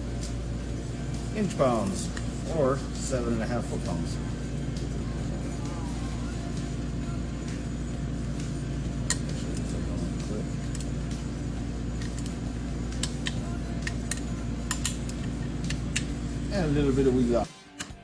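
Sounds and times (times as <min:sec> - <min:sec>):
steady low hum: 0:00.0 - 0:17.5.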